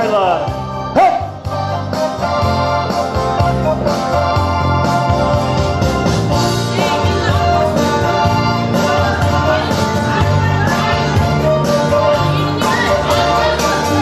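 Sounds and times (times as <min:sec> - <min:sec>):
bass line: 0:00.0 - 0:14.0
organ-like keyboard chords: 0:00.0 - 0:14.0.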